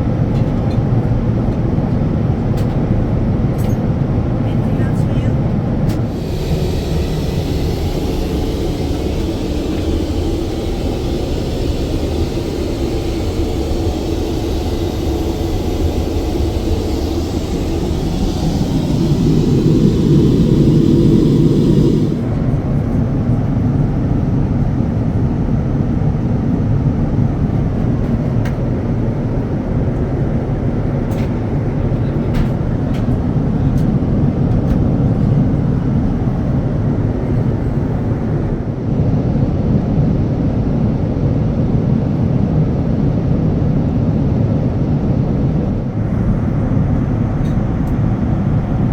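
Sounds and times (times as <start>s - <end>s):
aircraft cabin rumble and hiss: 0.0s - 48.9s.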